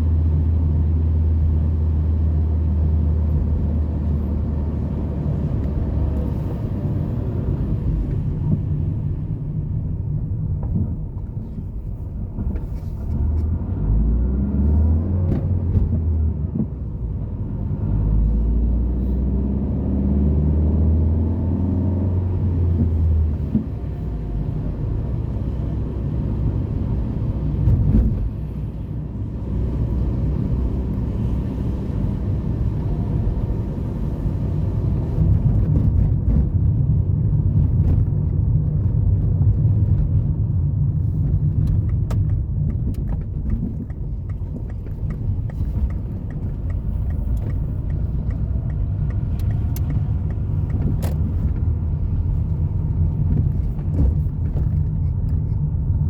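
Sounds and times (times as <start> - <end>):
car engines and tyres rumbling: 0.0 - 56.0.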